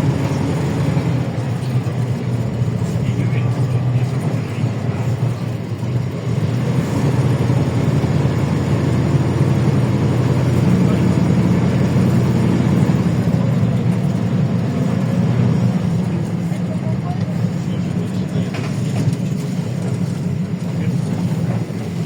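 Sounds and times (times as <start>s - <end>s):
bus engine droning: 0.0s - 22.0s.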